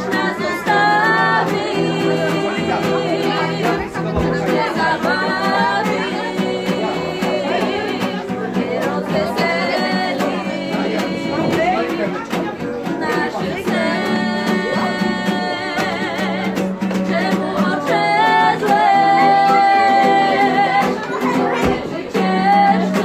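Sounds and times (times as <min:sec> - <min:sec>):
woman singing slow melody: 0:00.0 - 0:12.1, 0:12.9 - 0:23.0.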